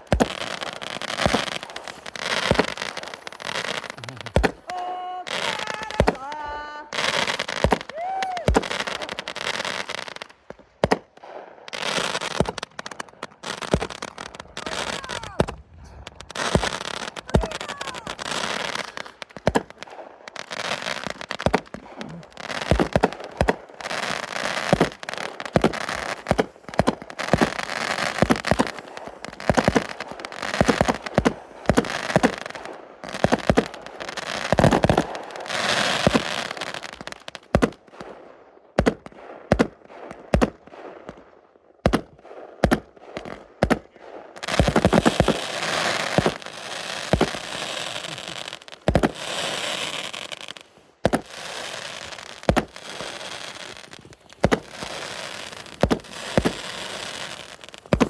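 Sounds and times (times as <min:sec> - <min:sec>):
fireworks banging: 0:00.0 - 0:58.0
fireworks fizzing and crackling: 0:00.0 - 0:58.0.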